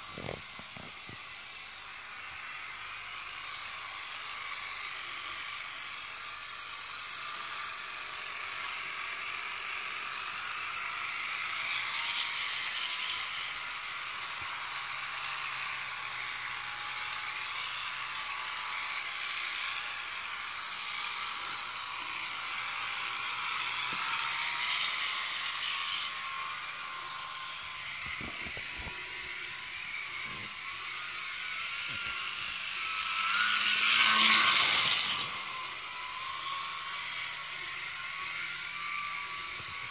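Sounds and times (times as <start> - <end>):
model locomotive motor whirring: 0.0 - 39.9.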